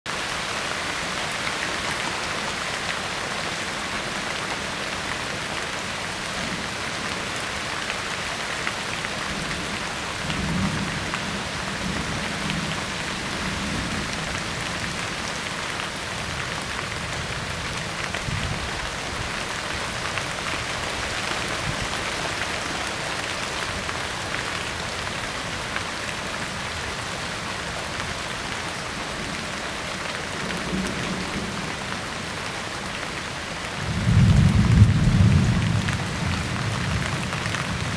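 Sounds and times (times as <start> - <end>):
steady rain falling: 0.1 - 37.9.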